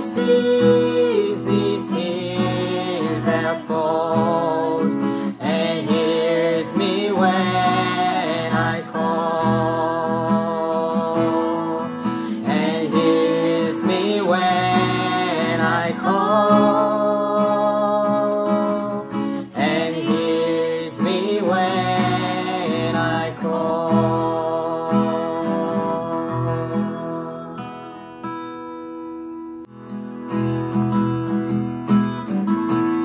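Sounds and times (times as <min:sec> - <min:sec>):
man and woman singing: 0:00.0 - 0:27.8
strummed acoustic guitar: 0:00.0 - 0:33.0.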